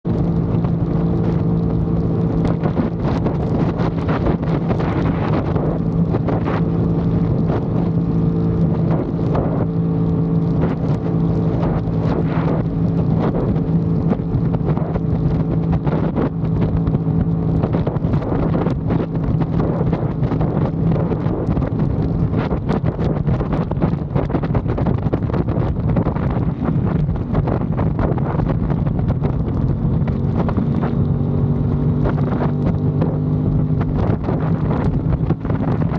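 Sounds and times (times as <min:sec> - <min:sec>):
motorcycle engine running: 0:00.0 - 0:35.9
wind buffeting microphone: 0:00.0 - 0:35.9.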